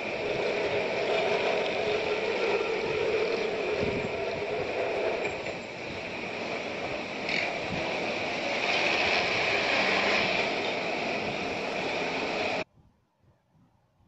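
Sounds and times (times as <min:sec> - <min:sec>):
tram rolling on rails: 0:00.0 - 0:12.7.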